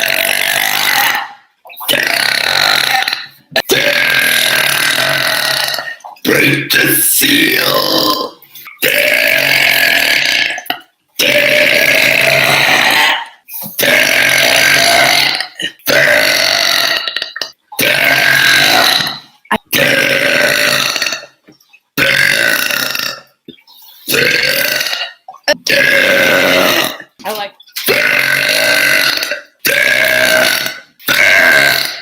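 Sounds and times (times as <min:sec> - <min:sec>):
woman burping loudly: 0:00.0 - 0:21.4, 0:22.0 - 0:32.0.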